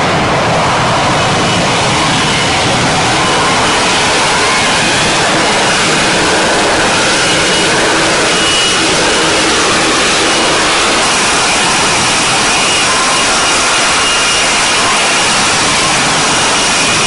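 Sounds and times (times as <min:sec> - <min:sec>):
high engine whine: 0:00.0 - 0:17.0
jet engines rushing: 0:00.0 - 0:17.0.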